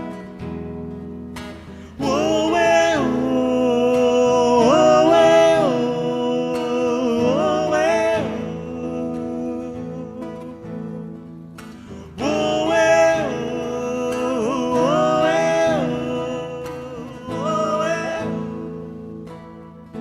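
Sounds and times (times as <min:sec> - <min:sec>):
acoustic guitar: 0:00.0 - 0:20.0.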